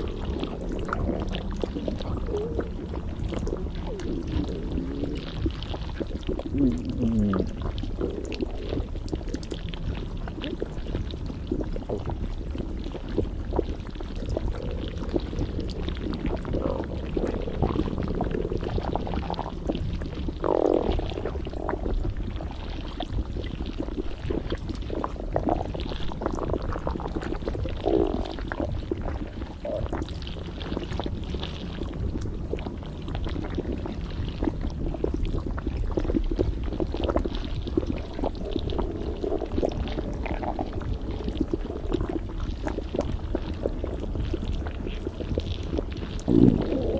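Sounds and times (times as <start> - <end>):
stomach gurgling and rumbling: 0.0 - 46.9.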